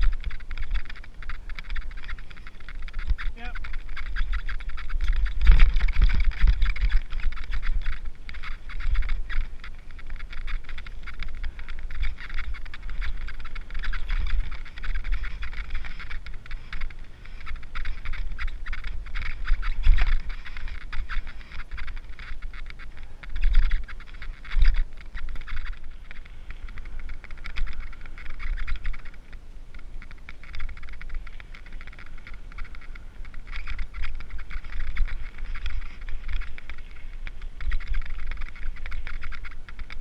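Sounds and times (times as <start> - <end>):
bike jolts: 0.0 - 40.0
bike tyres crunching and rattling: 0.0 - 40.0
fast irregular clicking: 0.0 - 40.0
wind rumble on microphone: 0.0 - 40.0.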